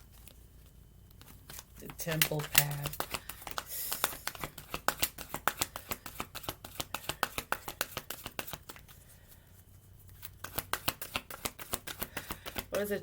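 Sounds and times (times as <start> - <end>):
cards being shuffled: 0.0 - 9.1, 9.9 - 13.0.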